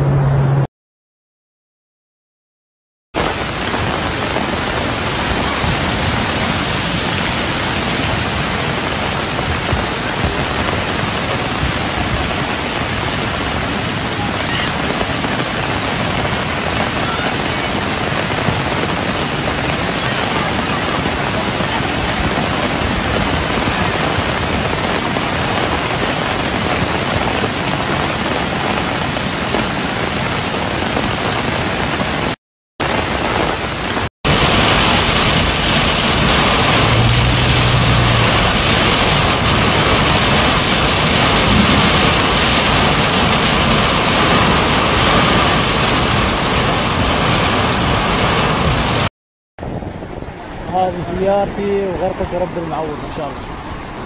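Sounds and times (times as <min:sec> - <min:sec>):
flood torrent rushing down street: 0:03.2 - 0:54.0.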